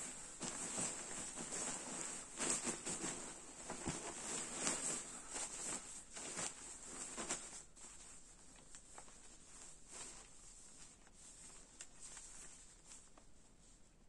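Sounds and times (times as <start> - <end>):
sleeping bag fabric rustling: 0.0 - 13.9.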